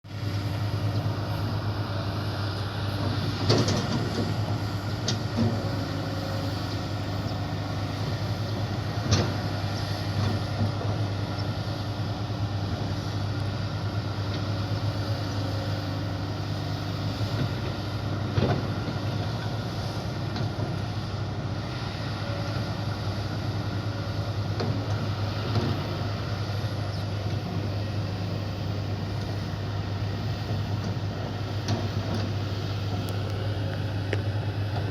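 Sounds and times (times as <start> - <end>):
excavator diesel engine droning: 0.1 - 34.9.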